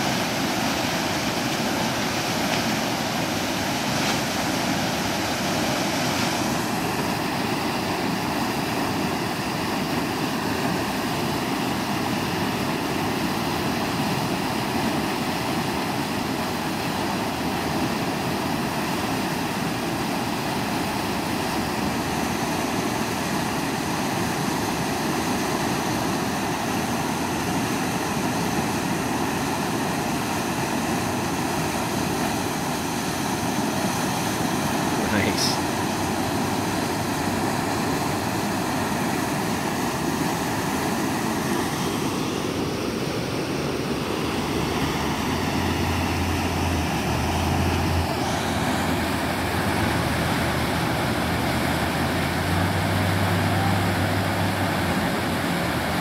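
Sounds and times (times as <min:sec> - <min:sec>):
whitewater rushing: 0:00.0 - 0:56.0.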